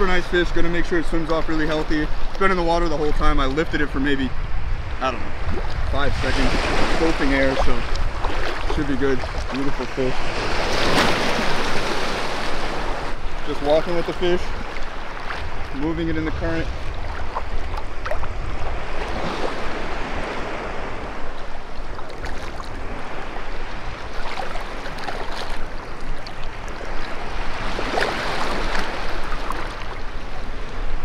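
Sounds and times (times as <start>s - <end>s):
wind on microphone: 0.0s - 31.0s
water sloshing and splashing: 5.3s - 30.7s.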